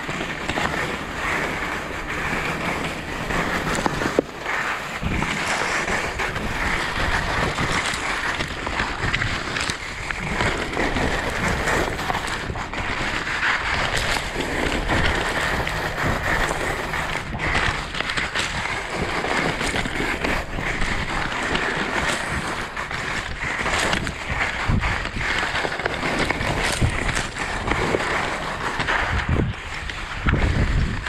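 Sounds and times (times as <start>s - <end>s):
skis scraping over snow: 0.0s - 31.0s
wind rushing over microphone: 0.0s - 31.0s.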